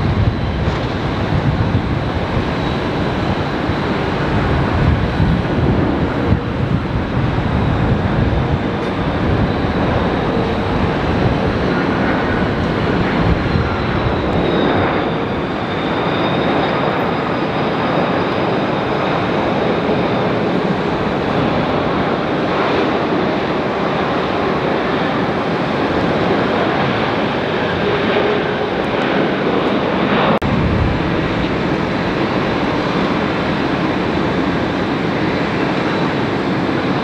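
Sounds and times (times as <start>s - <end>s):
airliner jet engines on approach: 0.0s - 37.0s.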